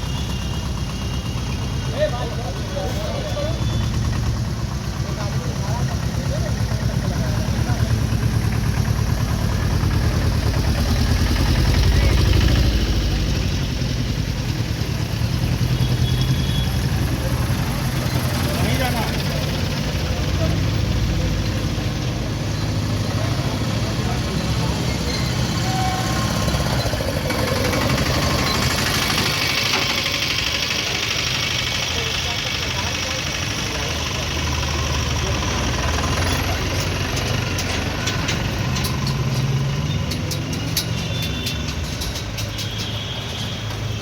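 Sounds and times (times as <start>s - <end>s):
vehicle engines idling: 0.0s - 44.0s.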